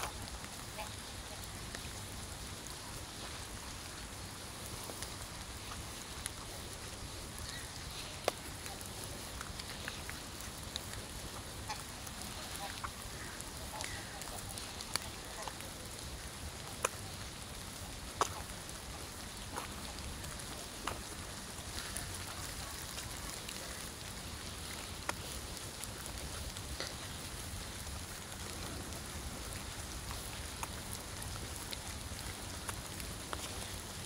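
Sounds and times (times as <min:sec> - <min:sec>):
raindrops ticking close by: 0:00.0 - 0:34.0
steady rain hiss: 0:00.0 - 0:34.0.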